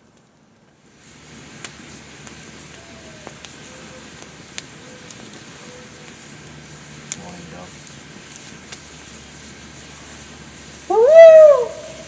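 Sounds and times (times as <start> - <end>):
burning wood popping: 0.0 - 12.0
campfire crackling: 0.0 - 12.0.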